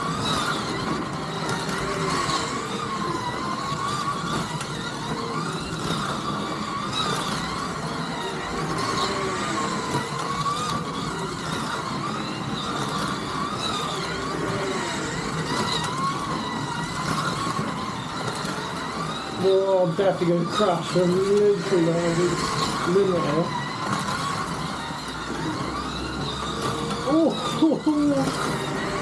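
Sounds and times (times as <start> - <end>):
slot car motors whining: 0.0 - 29.0.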